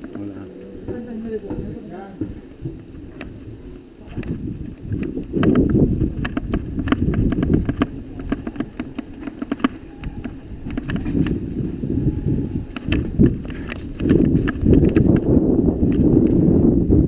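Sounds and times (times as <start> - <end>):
bike clattering and rattling: 0.0 - 17.0
bike tyres rumbling on cobblestones: 0.0 - 17.0.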